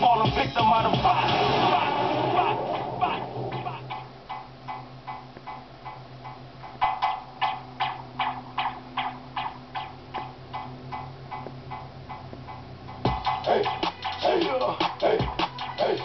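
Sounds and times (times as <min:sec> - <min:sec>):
steady low hum: 0:00.0 - 0:16.0
sharp pitched ticks: 0:02.8 - 0:16.0.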